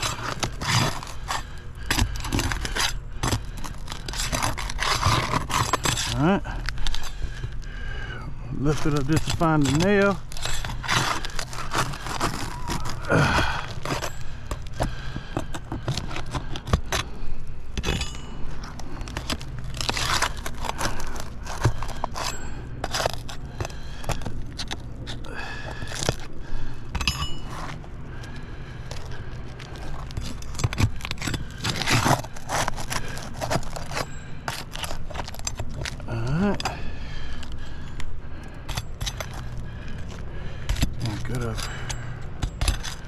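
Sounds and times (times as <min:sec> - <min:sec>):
shingle scraping and crunching: 0:00.0 - 0:43.0
steady low hum: 0:00.0 - 0:43.0.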